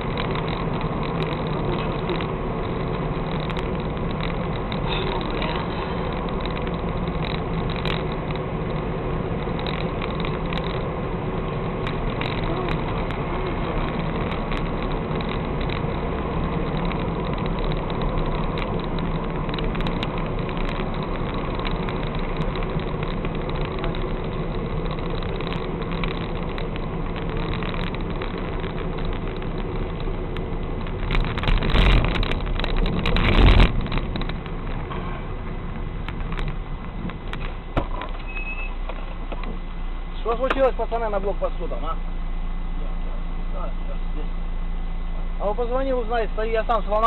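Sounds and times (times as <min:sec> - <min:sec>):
low rumbles: 0:00.0 - 0:47.0.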